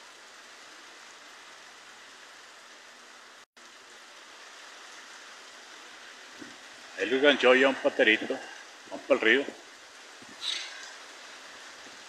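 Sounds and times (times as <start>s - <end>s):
heavy rain on muddy ground: 0.0s - 12.0s.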